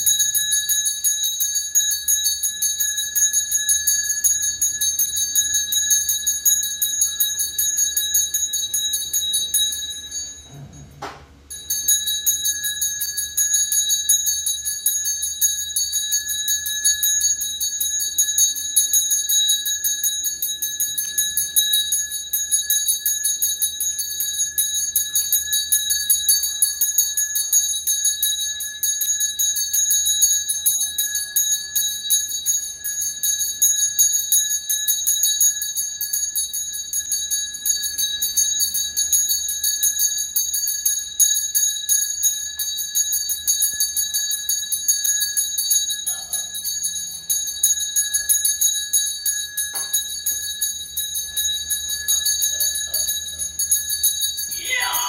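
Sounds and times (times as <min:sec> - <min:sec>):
brass hand bell jingling: 0:00.0 - 0:10.9, 0:11.5 - 0:55.0.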